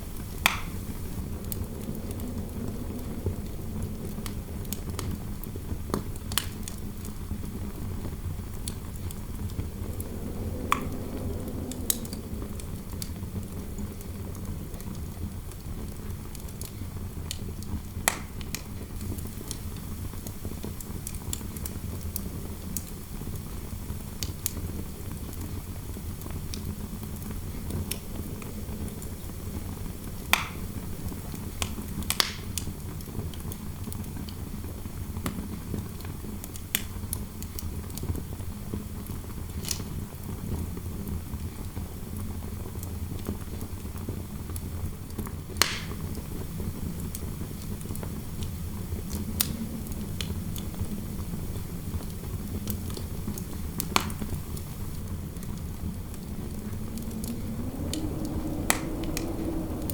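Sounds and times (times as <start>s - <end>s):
fire crackling and popping: 0.0s - 59.9s
low wind rumble: 0.0s - 59.9s.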